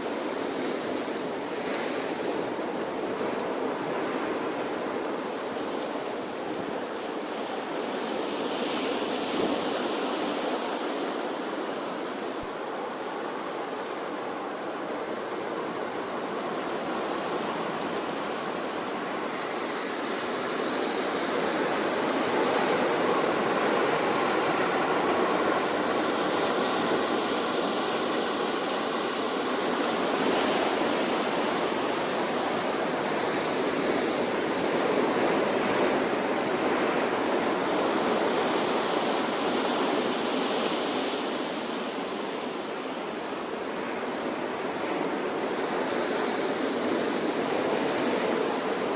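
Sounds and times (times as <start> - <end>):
ocean waves washing onto shore: 0.0 - 48.9.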